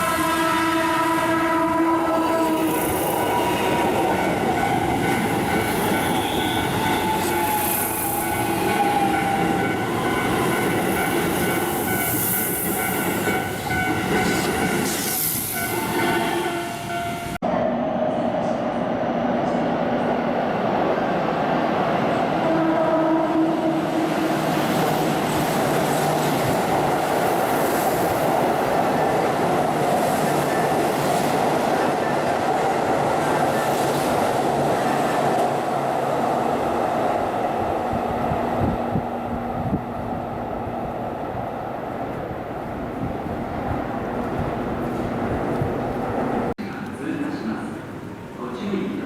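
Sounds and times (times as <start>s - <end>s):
train wheels rumbling on track: 0.0s - 48.8s.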